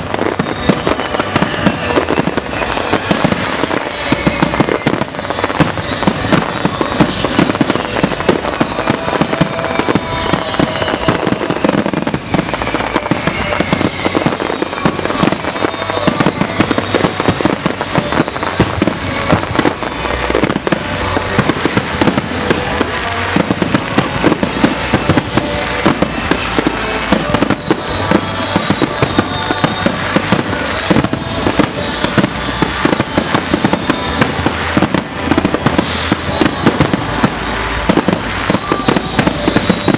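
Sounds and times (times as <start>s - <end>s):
firework bangs: 0.0s - 39.9s
firework crackling: 0.0s - 39.9s.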